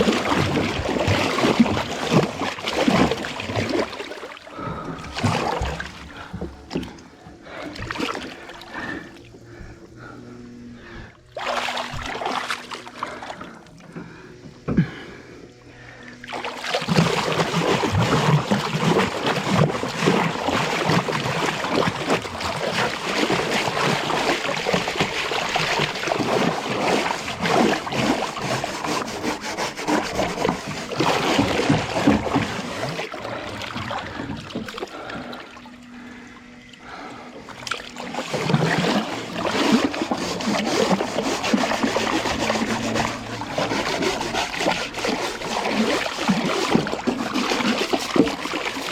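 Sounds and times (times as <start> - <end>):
water splashing and sloshing: 0.0 - 48.9.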